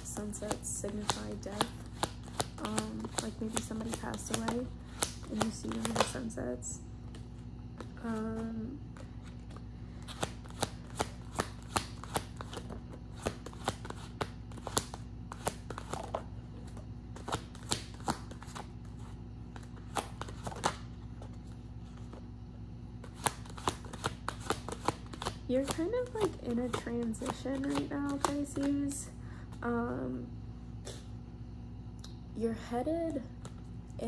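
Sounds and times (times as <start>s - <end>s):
cards shuffled by hand: 0.0s - 6.2s, 7.1s - 22.2s, 23.0s - 28.9s.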